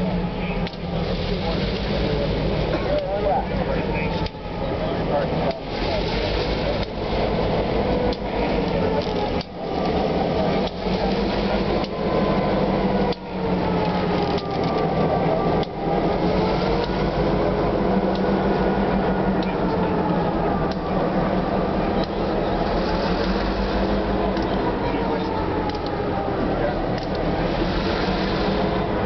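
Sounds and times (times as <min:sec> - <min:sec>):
diesel engine drone: 0:00.0 - 0:29.0
train wheels rumbling: 0:00.0 - 0:29.0.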